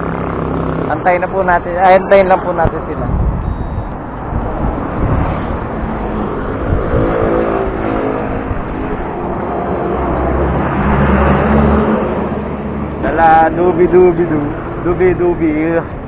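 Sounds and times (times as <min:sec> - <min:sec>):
vehicles passing close by: 0:00.0 - 0:16.0.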